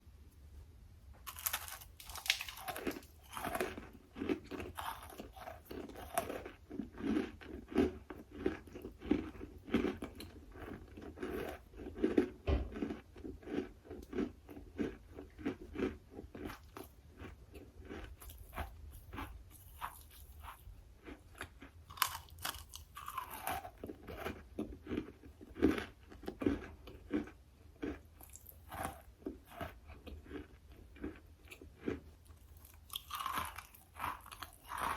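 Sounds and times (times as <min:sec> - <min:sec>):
person chewing chalky material: 0:01.3 - 0:34.9.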